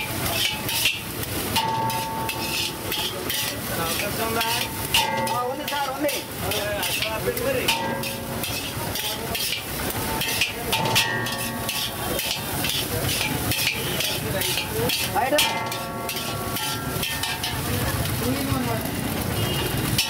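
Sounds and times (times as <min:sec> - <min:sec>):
metal spatula scraping a wok: 0:00.0 - 0:20.0
rice sizzling: 0:00.0 - 0:20.0.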